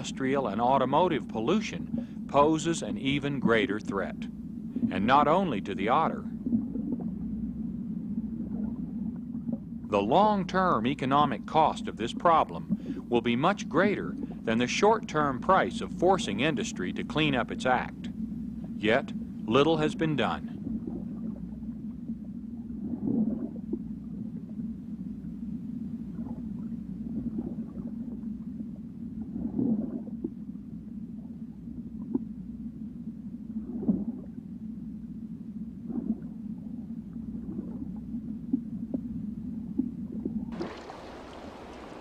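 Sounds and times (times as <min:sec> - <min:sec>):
rippling surface water hiss: 0:00.0 - 0:42.0
underwater rumble and gurgling: 0:00.0 - 0:42.0.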